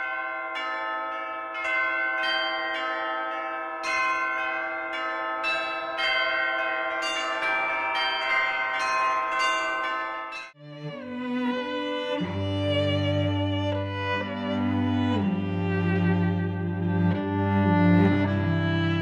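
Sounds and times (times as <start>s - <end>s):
bells pealing: 0.0s - 19.0s.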